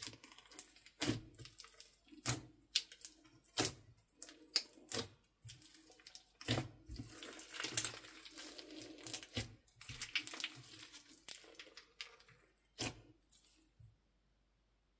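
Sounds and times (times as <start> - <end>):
slime squelching and crackling: 0.0 - 13.8.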